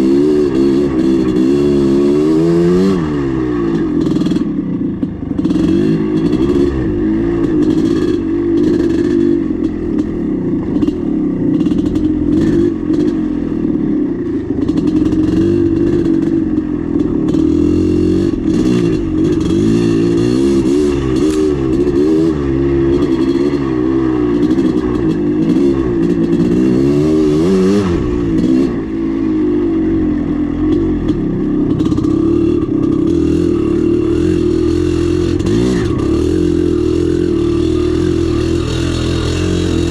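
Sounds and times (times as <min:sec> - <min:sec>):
dirt bike engine revving: 0:00.0 - 0:29.3, 0:30.7 - 0:39.9.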